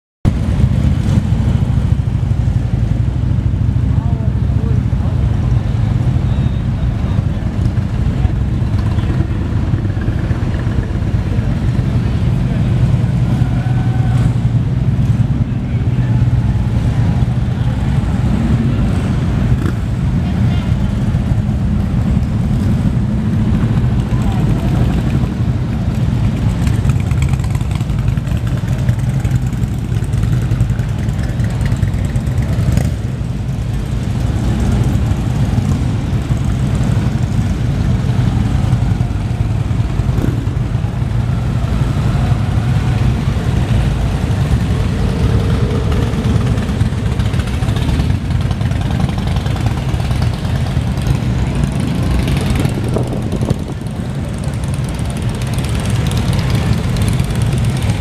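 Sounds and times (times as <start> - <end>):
motorcycle engines idling: 0.4 - 58.0.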